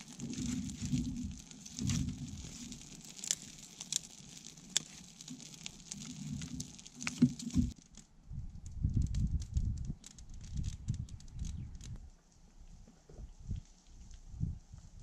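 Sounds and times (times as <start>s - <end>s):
campfire crackling and popping: 0.0s - 12.1s.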